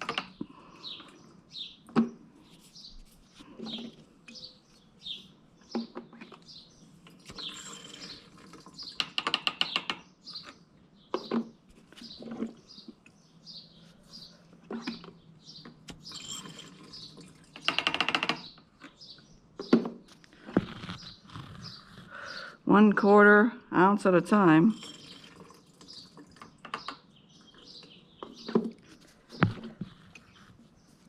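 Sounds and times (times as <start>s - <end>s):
small birds chirping: 0.0s - 23.2s, 24.3s - 31.0s.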